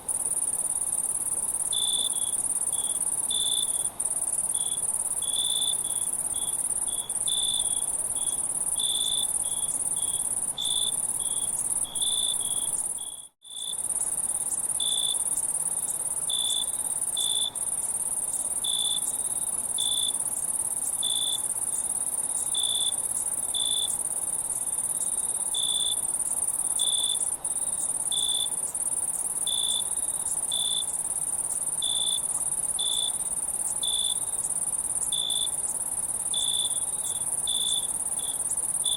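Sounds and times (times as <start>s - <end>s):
high-pitched insect trill: 0.2s - 38.9s
lower insect chirps: 0.2s - 38.9s.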